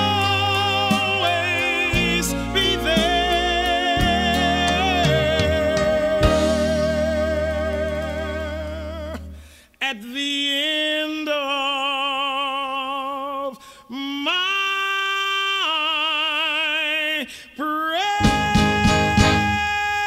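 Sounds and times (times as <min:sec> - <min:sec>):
man singing with vibrato: 0:00.0 - 0:20.0.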